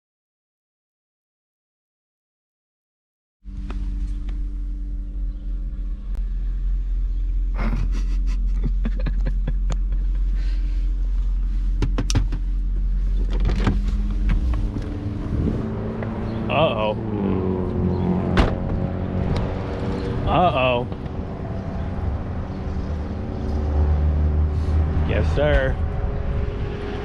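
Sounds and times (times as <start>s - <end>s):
car engine idling: 3.5s - 26.8s.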